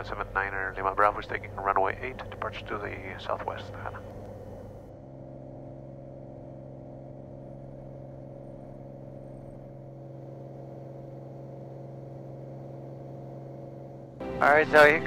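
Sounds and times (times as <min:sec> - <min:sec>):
piston aircraft engine droning: 0:00.0 - 0:15.0.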